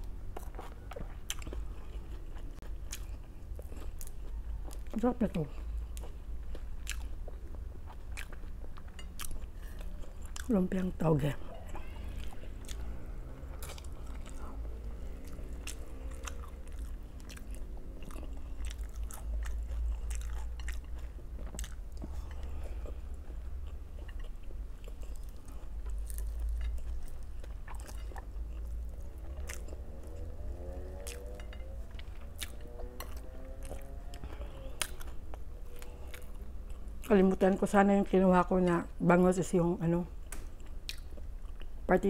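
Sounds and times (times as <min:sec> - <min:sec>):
crunchy chewing: 0:00.0 - 0:10.6, 0:11.4 - 0:37.2
steady low hum: 0:00.0 - 0:42.0.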